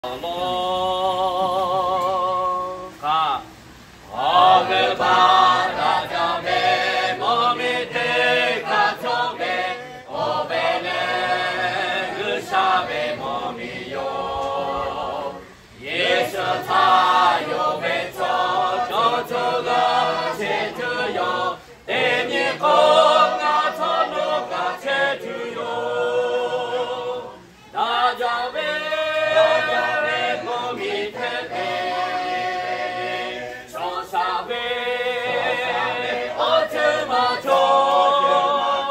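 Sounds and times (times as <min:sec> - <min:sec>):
mixed choir singing unaccompanied: 0:00.0 - 0:38.9.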